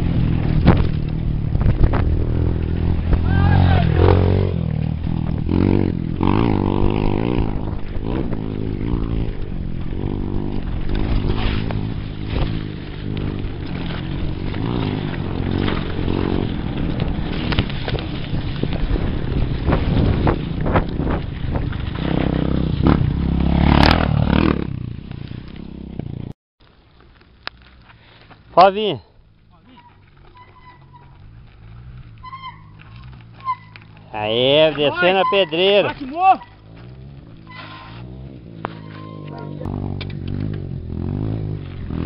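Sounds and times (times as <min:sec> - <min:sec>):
motorcycle engine revving: 0:00.0 - 0:26.4, 0:29.9 - 0:42.0
bike rattling on dirt trail: 0:00.0 - 0:42.0.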